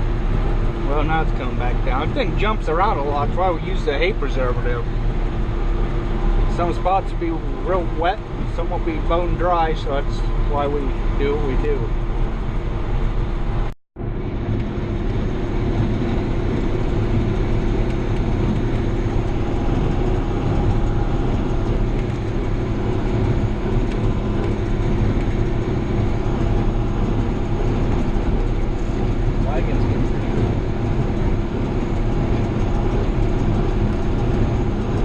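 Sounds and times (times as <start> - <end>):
tractor engine and baler drone: 0.0 - 35.0.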